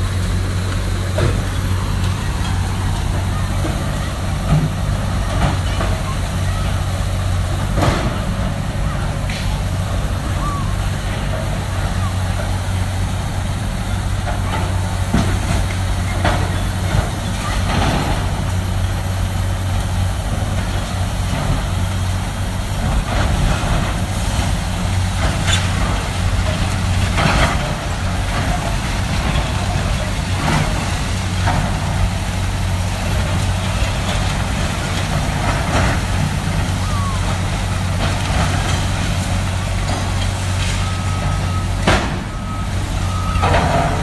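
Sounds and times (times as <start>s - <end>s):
heavy diesel machinery running: 0.0s - 44.0s.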